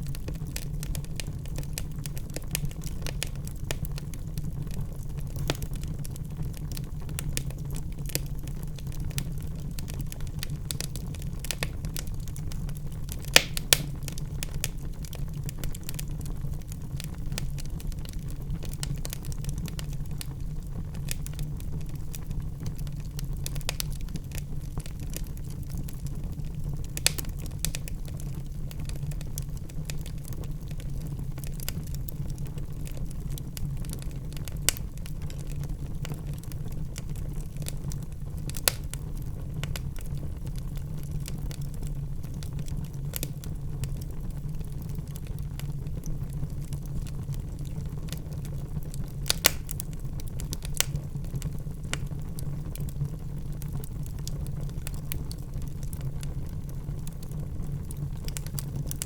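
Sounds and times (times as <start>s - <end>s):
fire crackles and pops: 0.0s - 59.0s
fire flames rumbling: 0.0s - 59.0s.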